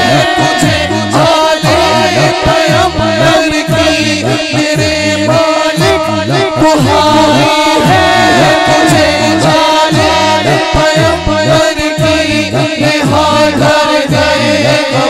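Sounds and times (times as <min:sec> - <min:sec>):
man singing through pa: 0:00.0 - 0:15.0
rhythmic low backing music: 0:00.0 - 0:15.0.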